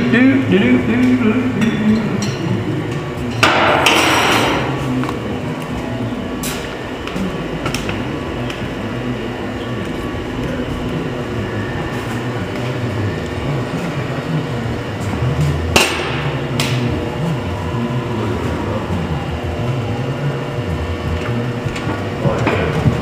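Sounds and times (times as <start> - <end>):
machine rumbling: 0.0 - 23.0.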